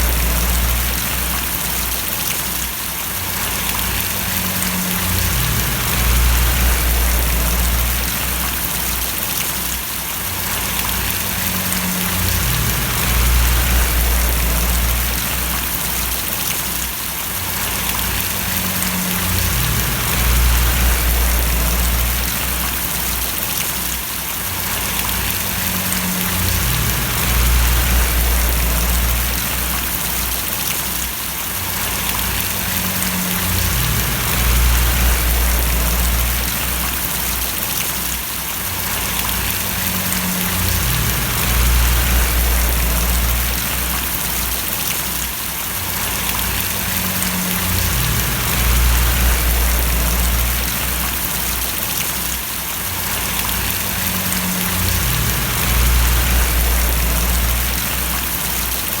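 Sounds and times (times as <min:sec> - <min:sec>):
low hum: 0:00.0 - 0:02.2, 0:03.4 - 0:09.2, 0:10.5 - 0:16.5, 0:17.6 - 0:23.4, 0:24.8 - 0:30.8, 0:31.8 - 0:37.7, 0:38.9 - 0:45.0, 0:46.0 - 0:52.0, 0:53.1 - 0:59.0
rain falling and splashing: 0:00.0 - 0:59.0.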